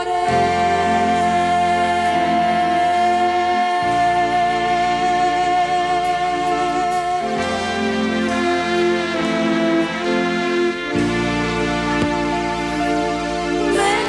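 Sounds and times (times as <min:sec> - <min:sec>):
pop band backing chords: 0:00.0 - 0:14.0
woman singing a long high note: 0:00.0 - 0:14.0.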